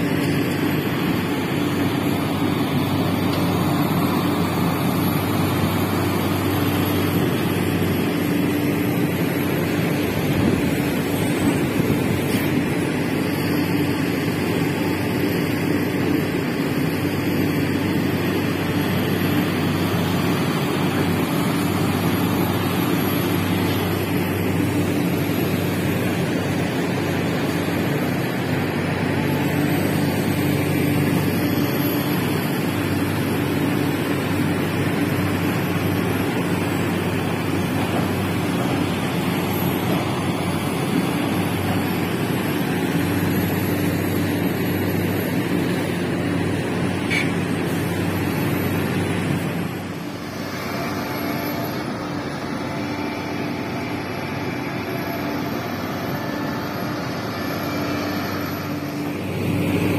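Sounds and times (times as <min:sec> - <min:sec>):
excavators digging soil: 0:00.0 - 0:59.9
heavy diesel engines droning: 0:00.0 - 0:59.9.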